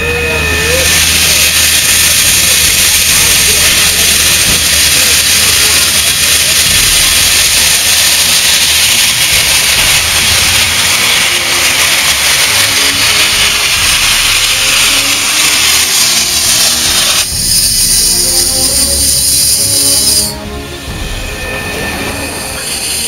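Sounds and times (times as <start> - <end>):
steam locomotive venting steam: 0.0 - 23.0.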